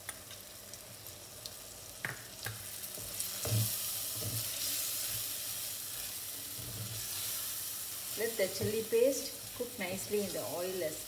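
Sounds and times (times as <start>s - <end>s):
paste sizzling in hot oil: 0.2s - 11.0s.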